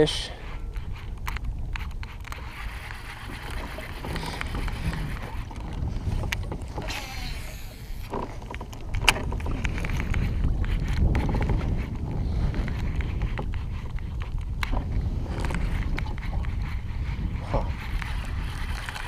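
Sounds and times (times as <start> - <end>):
low wind rumble on microphone: 0.0 - 19.0
water noise: 0.0 - 19.0.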